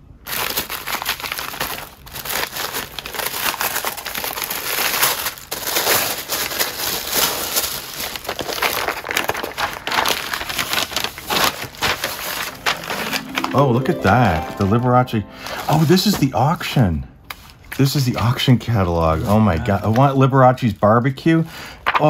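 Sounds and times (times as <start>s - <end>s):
plastic and paper crinkling: 0.2s - 14.8s, 17.3s - 22.0s.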